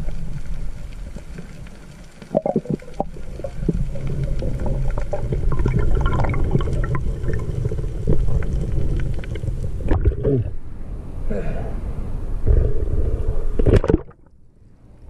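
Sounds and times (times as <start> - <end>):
low rumble: 2.9 - 15.0.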